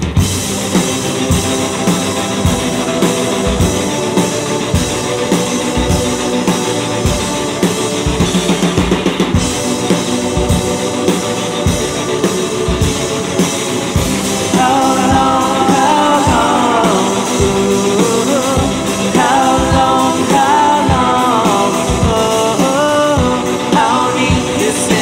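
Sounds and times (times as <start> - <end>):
drum kit beat: 0.0 - 25.0
rock band playing live: 0.0 - 25.0
person singing: 1.2 - 25.0.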